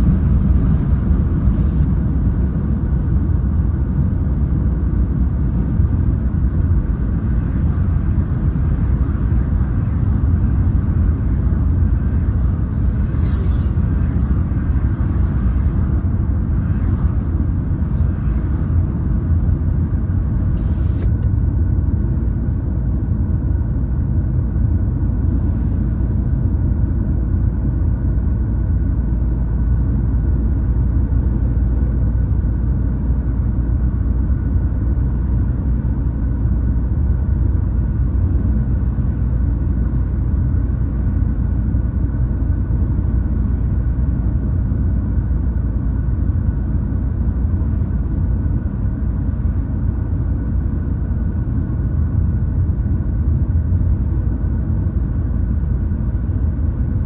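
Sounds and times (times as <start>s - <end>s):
car cabin road rumble: 0.0s - 57.0s
faint steady hum: 0.0s - 57.0s.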